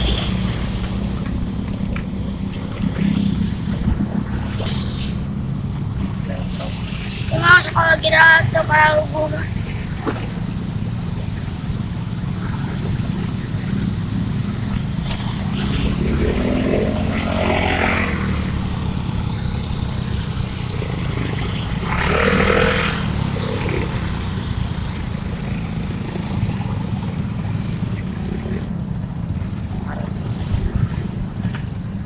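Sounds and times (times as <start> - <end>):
motorcycle engines rumbling: 0.0 - 32.0
nearby vehicle passing: 0.0 - 32.0.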